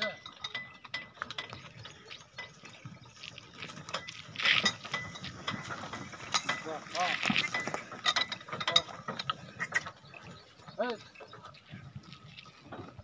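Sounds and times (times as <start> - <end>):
cart rattling on dirt track: 0.0 - 13.0.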